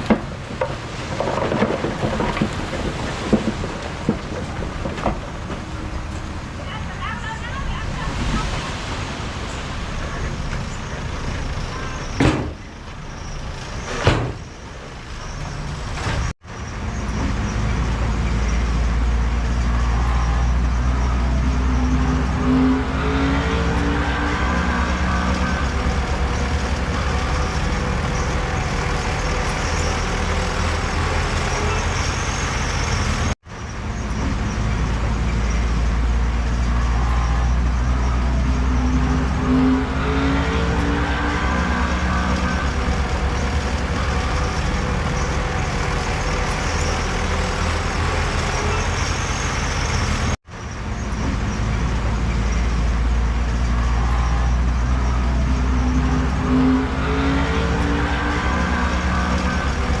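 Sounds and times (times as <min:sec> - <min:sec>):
diesel earthmoving machinery rumbling: 0:00.0 - 1:00.0.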